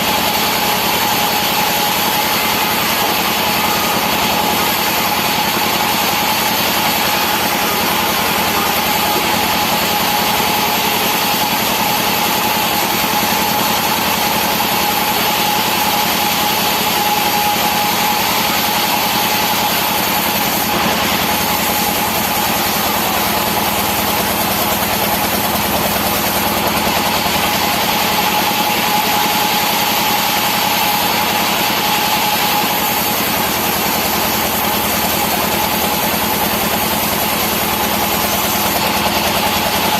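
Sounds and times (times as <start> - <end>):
sawmill machinery running: 0.0 - 39.9
steady mechanical whine: 0.0 - 39.9.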